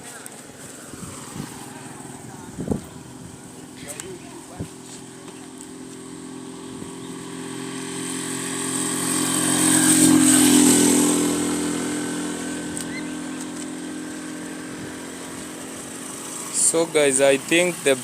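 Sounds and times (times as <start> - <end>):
motorcycle engine passing by: 0.0 - 18.0.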